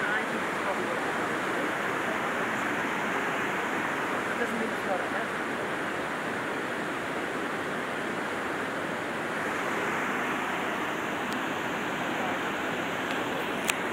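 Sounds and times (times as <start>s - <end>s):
river rushing: 0.0s - 13.9s.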